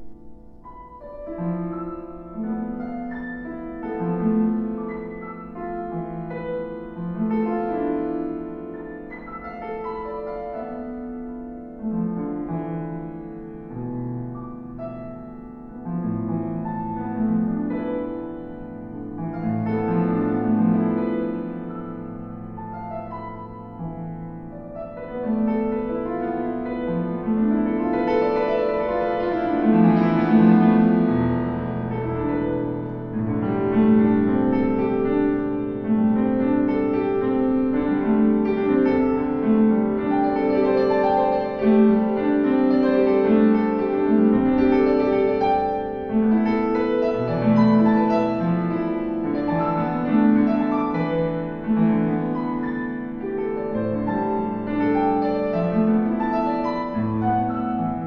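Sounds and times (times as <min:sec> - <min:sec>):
solo piano playing: 0:00.0 - 0:58.0.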